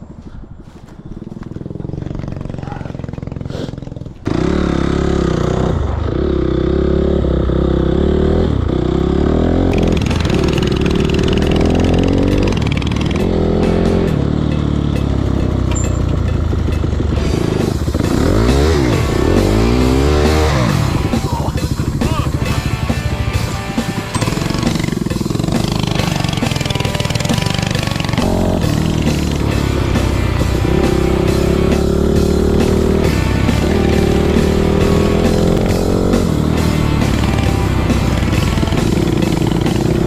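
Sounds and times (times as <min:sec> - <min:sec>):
mini bike engine revving: 0:01.4 - 0:40.0.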